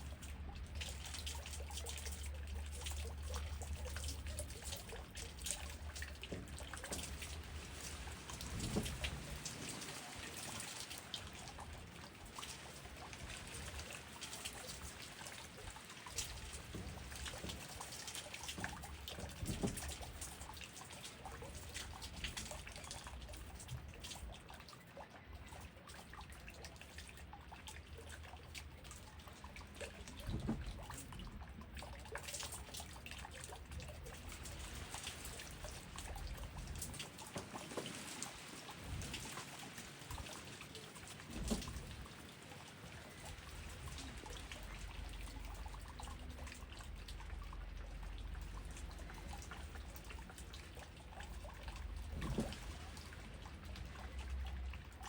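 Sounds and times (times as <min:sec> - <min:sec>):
close drops and drips: 0:00.0 - 0:55.0
rain falling steadily: 0:00.0 - 0:55.0.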